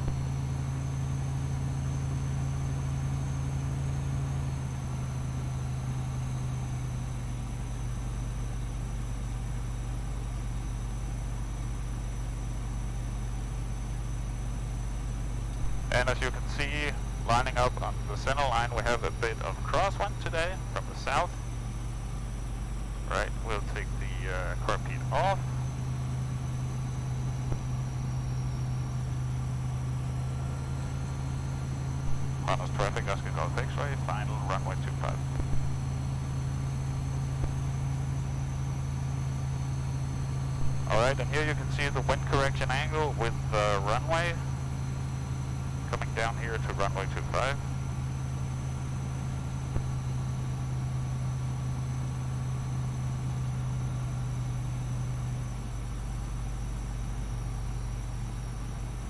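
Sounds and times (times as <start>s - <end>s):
light aircraft engine drone: 0.0s - 59.0s.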